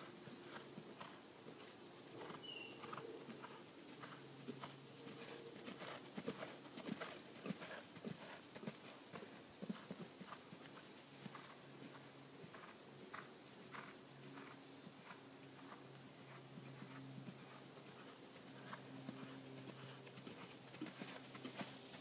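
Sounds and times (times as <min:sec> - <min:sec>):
horse hoofbeats on sand: 0:00.0 - 0:22.0.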